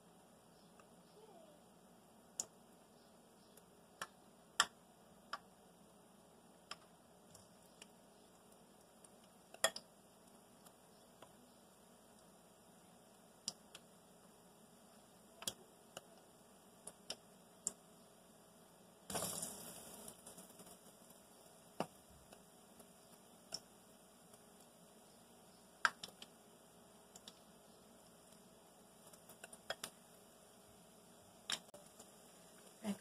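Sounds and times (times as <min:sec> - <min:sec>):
food deep-frying in hot oil: 0:00.0 - 0:33.0.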